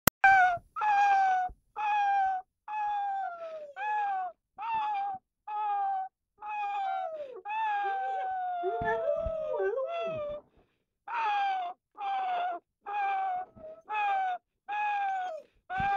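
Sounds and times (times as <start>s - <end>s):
dog howling: 0.4s - 10.4s, 11.1s - 15.9s.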